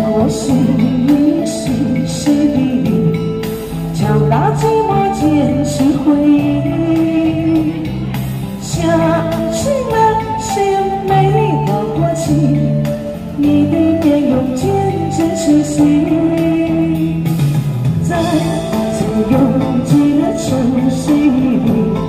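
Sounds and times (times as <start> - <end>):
instrumental accompaniment: 0.0 - 22.0
woman singing pop ballad: 0.0 - 22.0.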